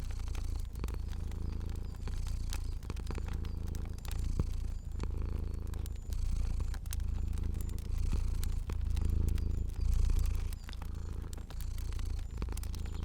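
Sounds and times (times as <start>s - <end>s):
cat purring: 0.0s - 13.0s
fire crackling and popping: 0.0s - 13.0s.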